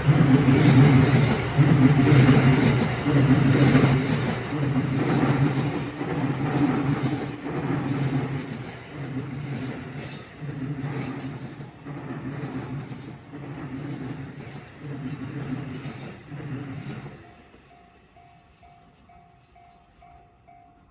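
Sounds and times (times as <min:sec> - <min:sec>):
train wheels clattering: 0:00.0 - 0:17.7.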